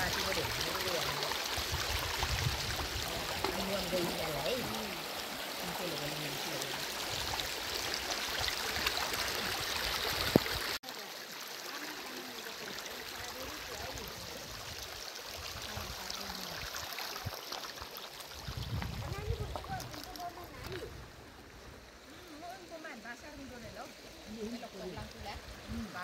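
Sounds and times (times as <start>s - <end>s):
stream rushing over stones: 0.0s - 26.0s.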